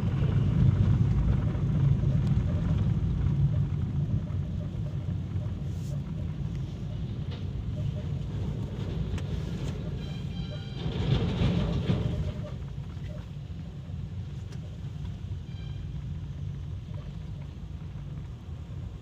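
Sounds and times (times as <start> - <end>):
rumble of engines and trucks: 0.0 - 19.0.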